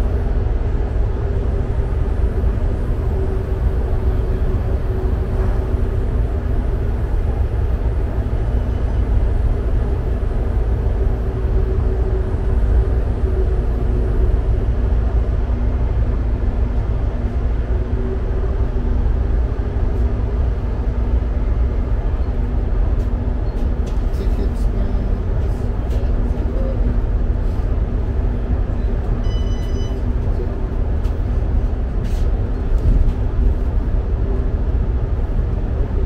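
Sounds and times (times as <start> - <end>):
constant train hum: 0.0 - 36.0
wheels rumbling on rail: 0.0 - 36.0.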